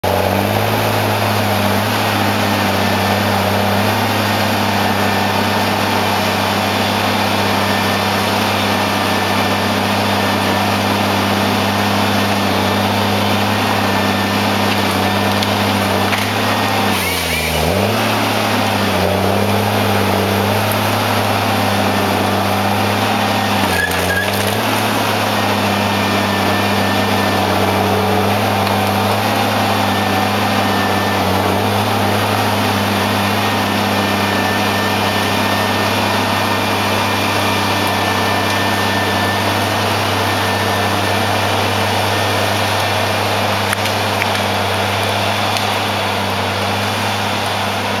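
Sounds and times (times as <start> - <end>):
diesel engine running steadily: 0.0 - 48.0.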